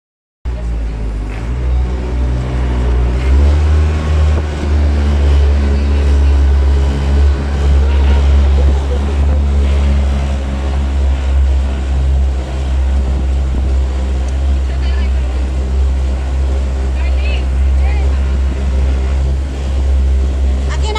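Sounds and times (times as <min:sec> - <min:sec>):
boat engine rumbling: 0:00.5 - 0:20.9.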